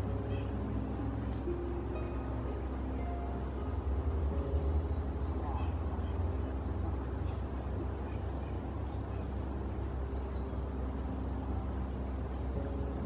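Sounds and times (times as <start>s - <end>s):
constant low rumble: 0.0s - 13.0s
high-pitched insect chorus: 0.0s - 13.0s.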